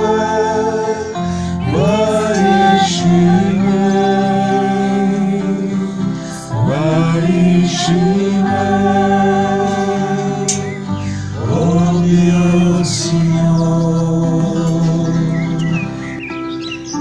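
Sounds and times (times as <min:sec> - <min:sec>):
person singing a hymn: 0:00.0 - 0:16.3
sustained accompaniment: 0:00.0 - 0:17.0.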